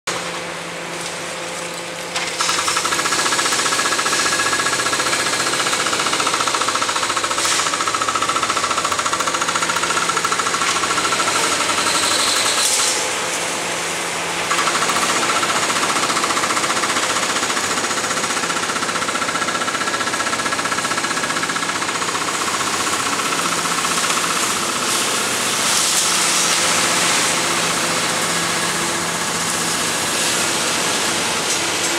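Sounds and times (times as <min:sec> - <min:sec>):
diesel engine running: 0:00.1 - 0:31.9
hydraulic breaker hammering concrete: 0:01.8 - 0:31.9.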